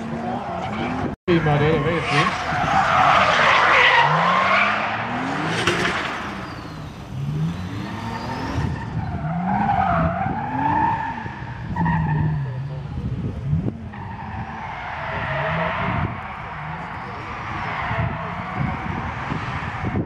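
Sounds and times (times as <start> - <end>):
tyres screeching on tarmac: 0.0 - 13.0, 13.8 - 20.0
car engine revving: 0.0 - 20.0.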